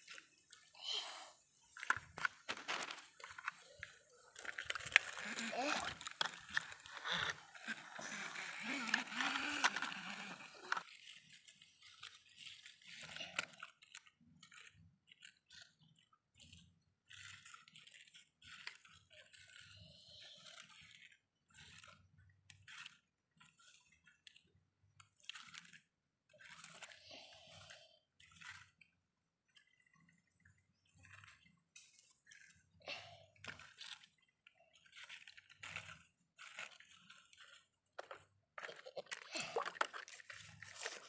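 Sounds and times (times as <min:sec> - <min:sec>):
toy roller crunching on mud: 0:00.0 - 0:41.0.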